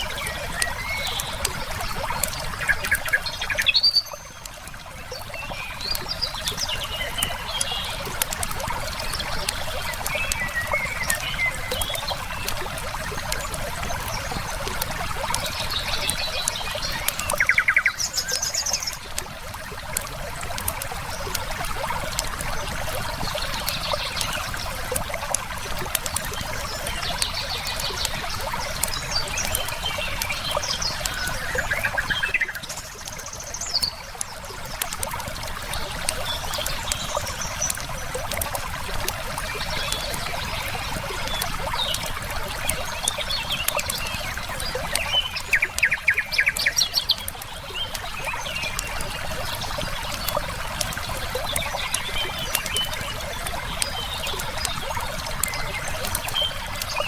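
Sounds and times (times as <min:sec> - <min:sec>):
wood fire crackling: 0:00.0 - 0:17.8, 0:18.4 - 0:56.9
river water flowing: 0:00.0 - 0:57.0
songbirds chirping: 0:00.0 - 0:57.0.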